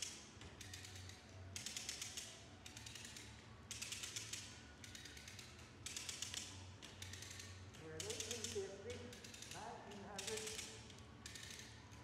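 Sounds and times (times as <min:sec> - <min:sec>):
rapid clicking of test rig: 0:00.0 - 0:12.0.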